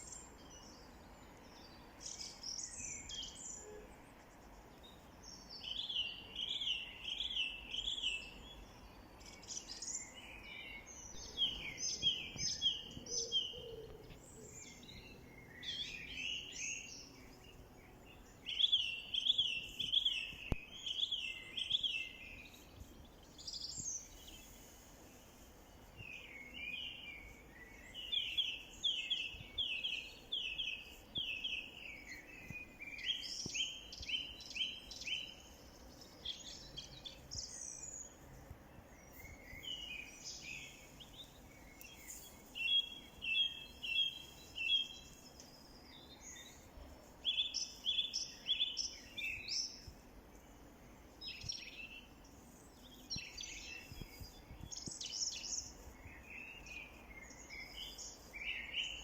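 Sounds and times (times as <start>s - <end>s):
faint background hiss: 0.0s - 59.0s
songbirds singing: 0.0s - 59.0s.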